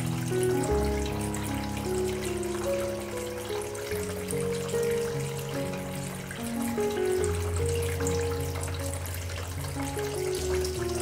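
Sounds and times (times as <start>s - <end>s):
fountain water trickling: 0.0s - 11.0s
slow background music: 0.0s - 11.0s.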